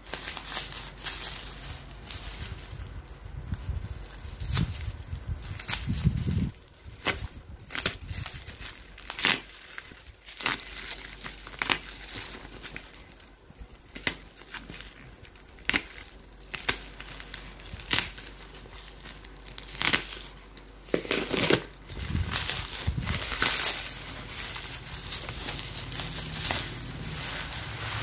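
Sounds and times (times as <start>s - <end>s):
bubble wrap crinkling: 0.0s - 28.0s
plastic tearing: 0.0s - 28.0s.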